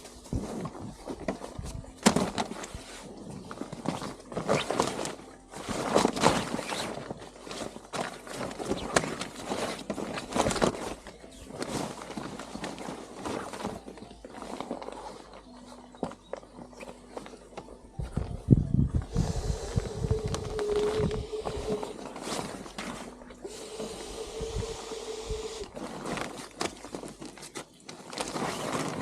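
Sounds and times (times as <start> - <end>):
footsteps crunching on dry ground: 0.0 - 29.0.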